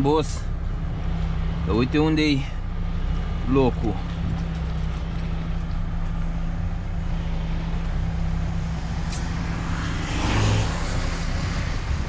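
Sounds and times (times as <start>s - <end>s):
diesel lorry engine running: 0.0s - 12.0s.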